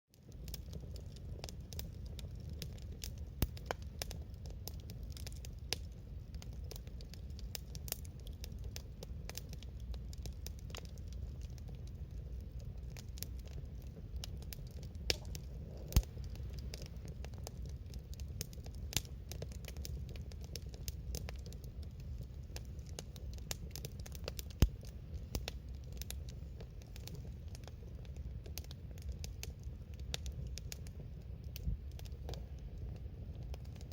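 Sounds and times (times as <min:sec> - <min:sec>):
campfire wood crackling and popping: 0:00.1 - 0:33.9
low fire rumble: 0:00.1 - 0:33.9.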